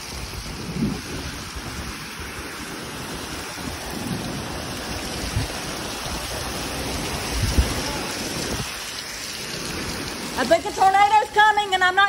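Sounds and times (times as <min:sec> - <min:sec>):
heavy rain pouring: 0:00.0 - 0:12.0
wind gusts rumbling: 0:00.0 - 0:12.0.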